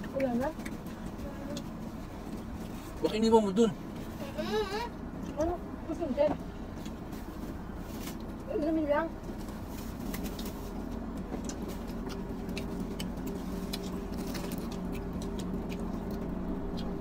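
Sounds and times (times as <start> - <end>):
car engine idling: 0.0 - 17.0
people eating pizza: 0.0 - 17.0.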